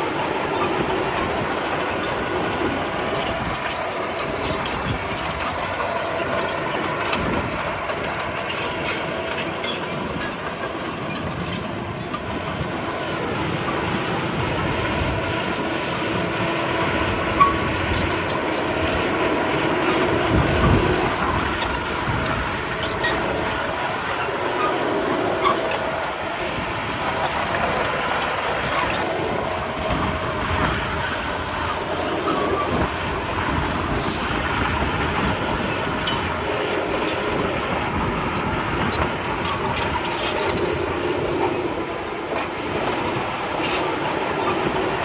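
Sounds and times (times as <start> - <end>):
bulldozer diesel engine running: 0.0 - 45.0
steel tracks clanking and squealing: 0.0 - 45.0.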